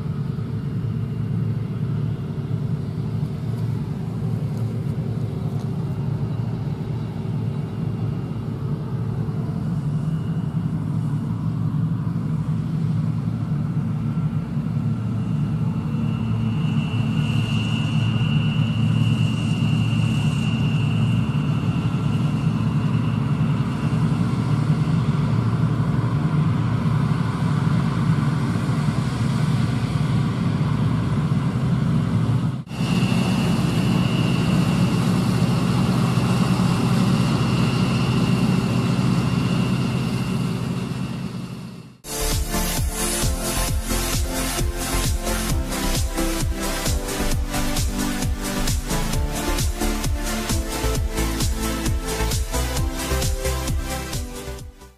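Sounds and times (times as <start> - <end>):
heavy machinery engine rumble: 0.0 - 54.6
high steady whine: 0.0 - 54.9.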